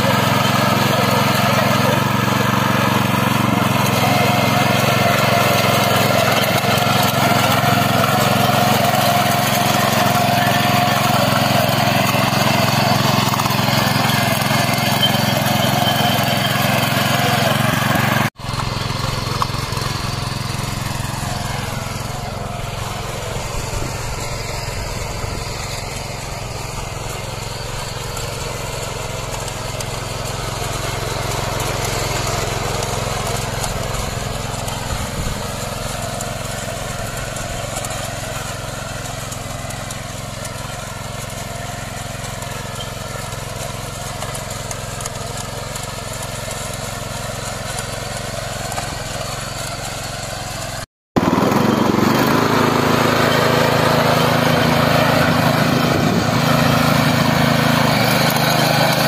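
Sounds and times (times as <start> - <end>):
power weeder engine tilling soil: 0.0 - 59.0.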